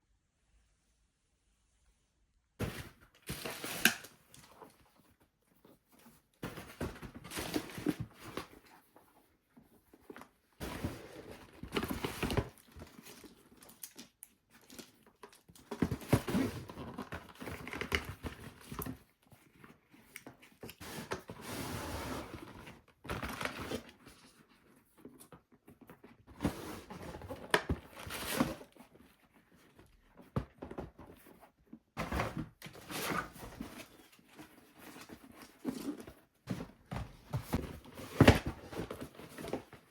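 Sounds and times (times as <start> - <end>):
paper and cardboard crinkling: 2.6 - 39.9.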